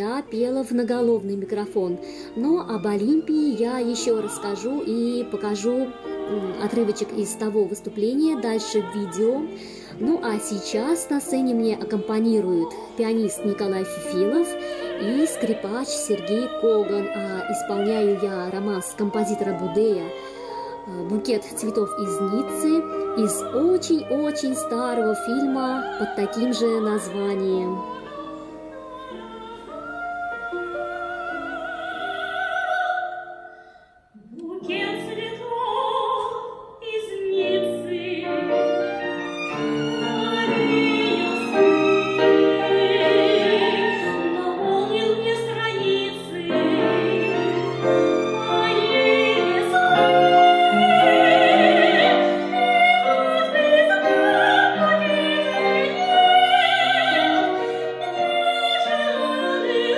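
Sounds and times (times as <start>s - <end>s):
violin: 0.0s - 33.1s, 34.2s - 59.9s
piano: 0.0s - 59.9s
soprano singing with vibrato: 0.0s - 59.9s.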